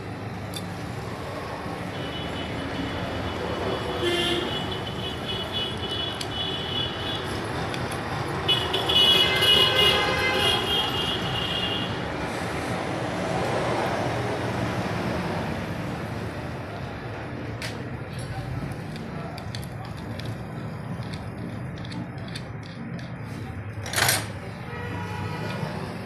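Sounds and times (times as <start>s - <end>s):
motor vehicle noise: 0.0s - 26.0s.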